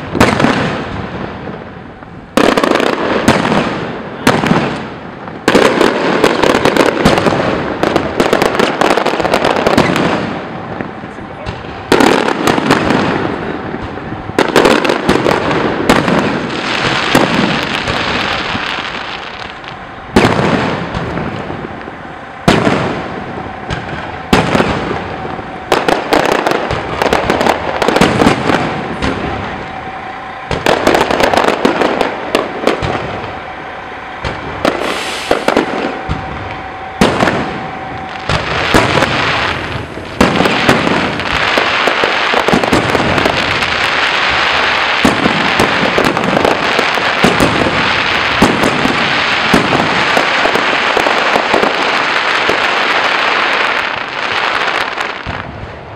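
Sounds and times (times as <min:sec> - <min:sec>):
echoing rumble: 0:00.0 - 0:50.5
fireworks bangs: 0:00.0 - 0:55.9
fireworks crackle: 0:00.0 - 0:55.9.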